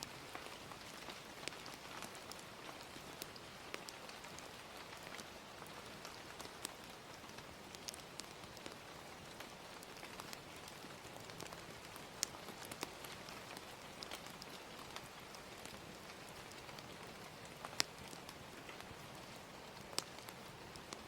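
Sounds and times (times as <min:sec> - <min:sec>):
fire crackling and popping: 0:00.0 - 0:21.0
gentle rain: 0:00.0 - 0:21.0.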